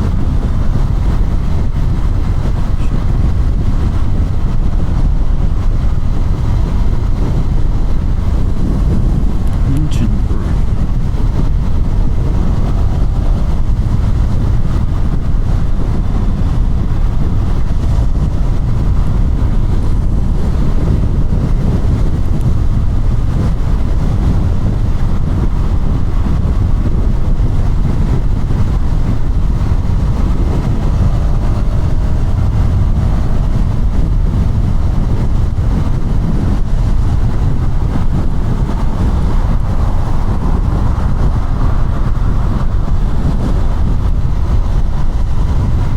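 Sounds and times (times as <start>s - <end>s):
motorcycle engine running: 0.0s - 45.9s
wind rumble on microphone: 0.0s - 45.9s.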